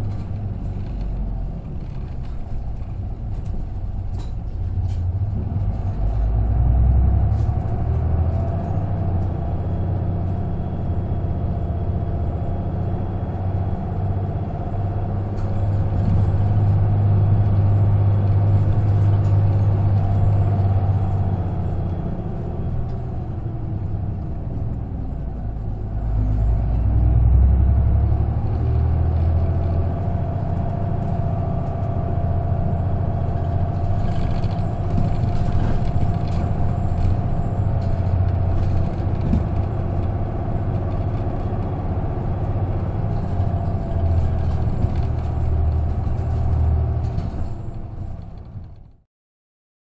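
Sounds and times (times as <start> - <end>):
bus diesel engine droning: 0.0 - 49.0.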